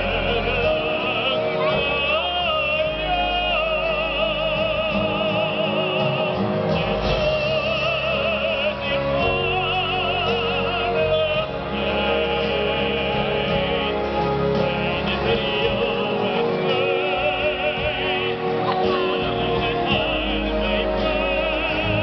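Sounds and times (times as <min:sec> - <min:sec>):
choir and band accompaniment: 0:00.0 - 0:22.0
person singing with vibrato: 0:00.0 - 0:22.0.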